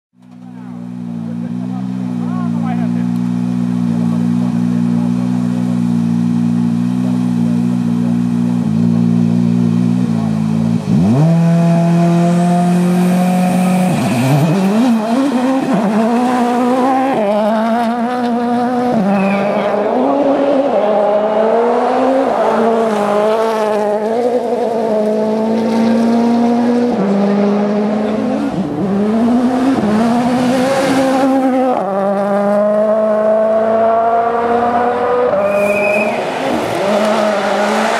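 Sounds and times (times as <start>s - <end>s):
rally car engine revving: 0.2s - 37.9s.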